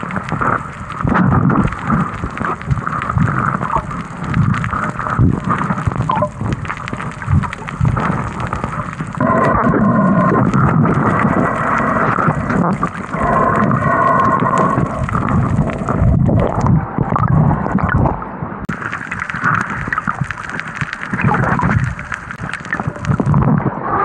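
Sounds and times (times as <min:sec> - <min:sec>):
low rumble: 0:00.0 - 0:24.0
muffled underwater water rushing: 0:00.0 - 0:24.0.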